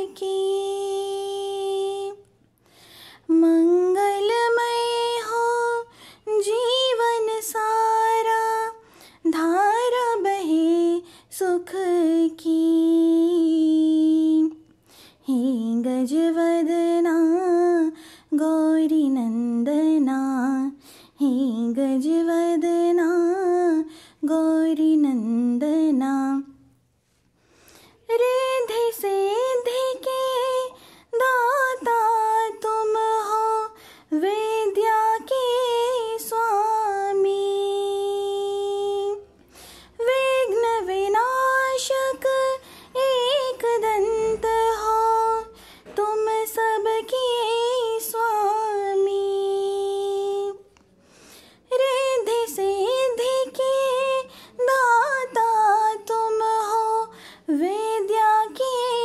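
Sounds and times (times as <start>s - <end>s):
woman singing unaccompanied: 0.0s - 2.4s, 3.2s - 26.7s, 28.0s - 39.4s, 40.0s - 50.7s, 51.6s - 59.0s.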